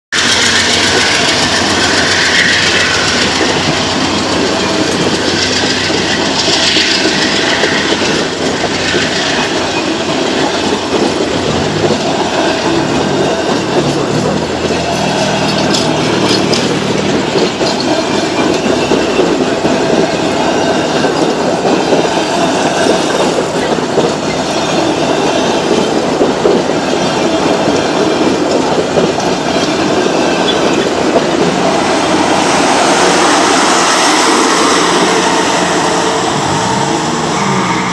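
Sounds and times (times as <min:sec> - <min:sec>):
train wheels clattering over rails: 0:00.1 - 0:37.9
train wheel squeal: 0:00.2 - 0:37.9.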